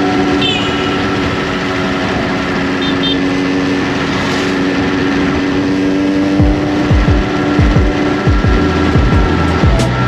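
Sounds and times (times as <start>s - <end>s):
two-stroke engine running: 0.0s - 10.0s.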